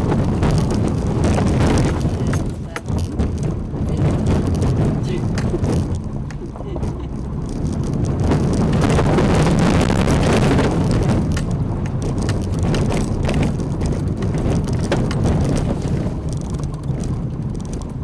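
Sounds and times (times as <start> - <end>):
body knocks and rattles: 0.0 - 18.0
car engine and road noise: 0.0 - 18.0
stones under tyres: 0.0 - 18.0.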